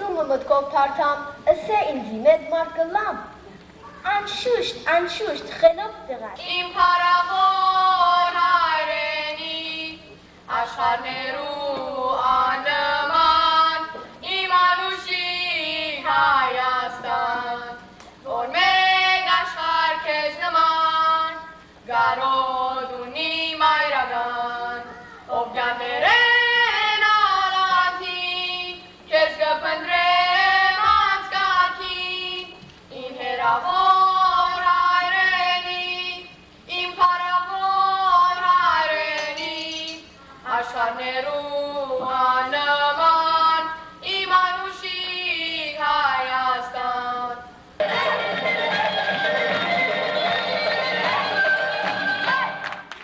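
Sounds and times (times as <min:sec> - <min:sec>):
young voices singing unaccompanied: 0:06.4 - 0:53.0.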